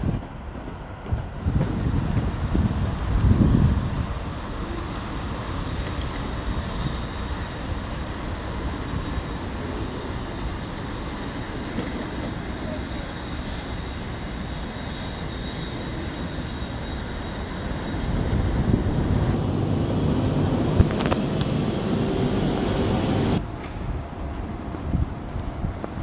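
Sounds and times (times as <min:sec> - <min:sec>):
traffic: 0:00.0 - 0:26.0
distant diesel machinery: 0:03.9 - 0:25.9.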